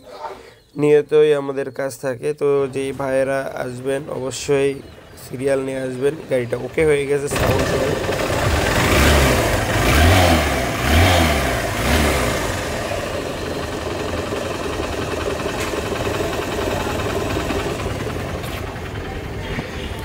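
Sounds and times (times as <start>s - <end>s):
motorcycle engine revving and idling: 2.5s - 20.0s.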